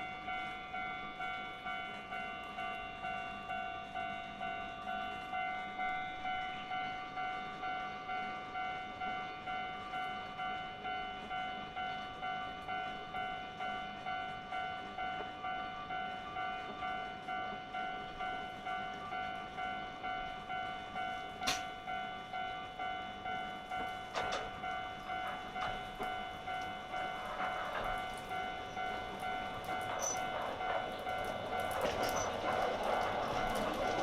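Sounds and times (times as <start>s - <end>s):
level crossing warning bell: 0.0s - 34.0s.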